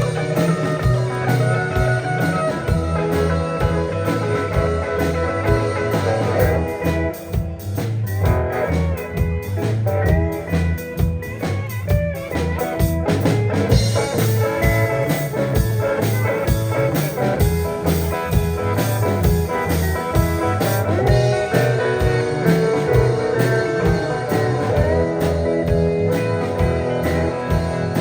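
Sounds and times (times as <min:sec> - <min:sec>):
electric guitar lines: 0:00.0 - 0:28.0
steady drum beat: 0:00.0 - 0:28.0
walking bass: 0:00.0 - 0:28.0.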